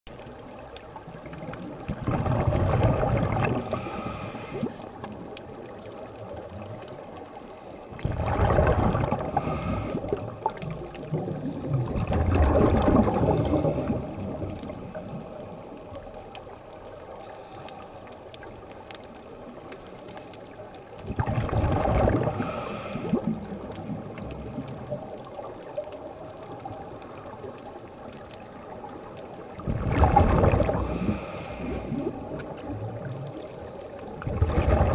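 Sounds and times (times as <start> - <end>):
exhaled bubbles underwater: 0.2 - 17.4, 18.2 - 34.9
faint underwater hiss: 0.2 - 34.9.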